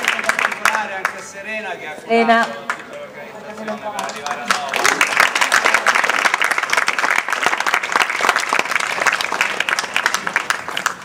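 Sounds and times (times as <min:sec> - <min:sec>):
audience applauding: 0:00.0 - 0:01.4, 0:02.4 - 0:11.0.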